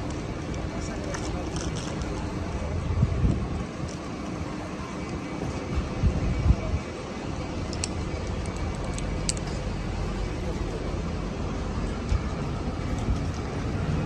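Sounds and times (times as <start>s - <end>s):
rumble of passing traffic: 0.0s - 14.0s.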